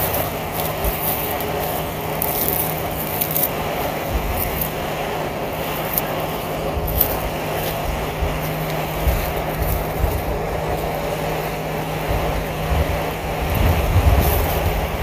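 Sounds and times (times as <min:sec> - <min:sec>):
heater fan whirring: 0:00.0 - 0:15.0
wind hitting microphone: 0:00.0 - 0:15.0.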